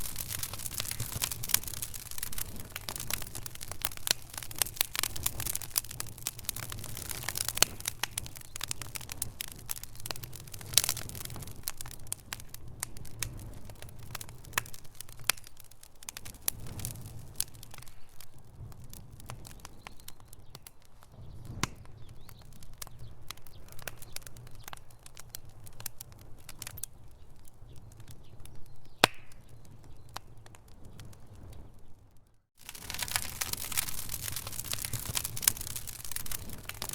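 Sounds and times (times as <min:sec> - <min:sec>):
fire pops and snaps: 0:00.0 - 0:36.9
low rumble of flame: 0:00.0 - 0:36.9
wood fire crackling: 0:00.0 - 0:36.9.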